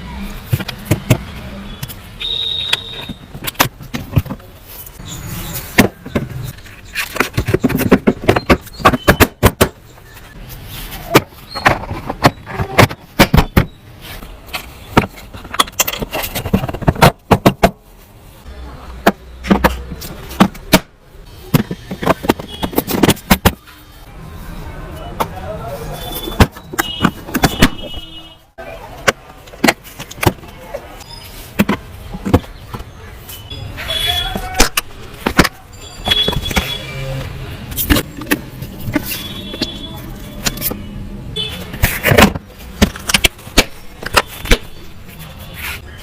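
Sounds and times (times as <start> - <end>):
hard objects clicking and knocking: 0.3 - 18.1, 18.8 - 24.1, 25.0 - 45.4.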